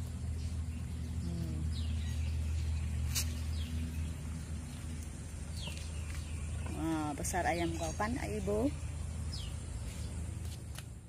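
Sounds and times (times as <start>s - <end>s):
birds chirping faintly: 0.0s - 11.0s
steady low hum: 0.0s - 11.0s.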